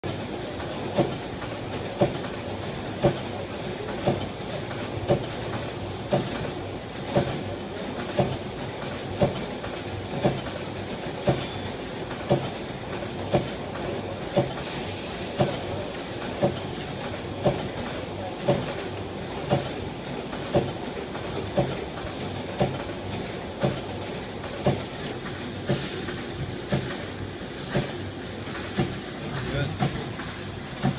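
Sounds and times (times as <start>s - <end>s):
mechanical hum and hiss: 0.0s - 30.9s.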